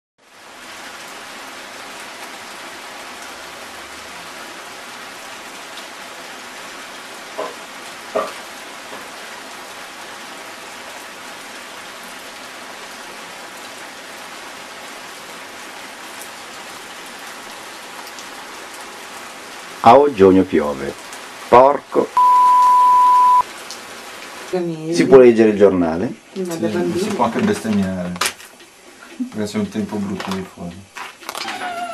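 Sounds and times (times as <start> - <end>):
steady rain falling: 0.2 - 31.9.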